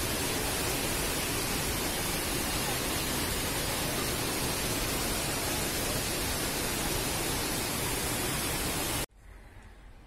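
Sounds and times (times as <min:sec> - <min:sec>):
waterfall and stream rushing: 0:00.0 - 0:09.1.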